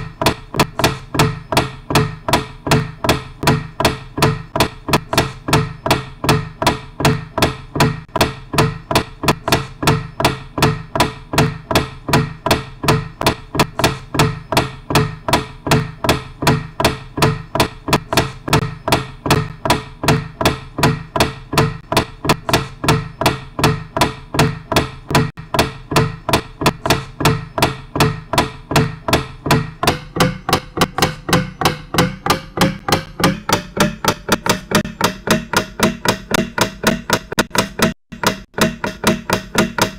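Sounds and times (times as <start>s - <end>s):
repeating percussive ringing knocks: 0.0s - 39.9s.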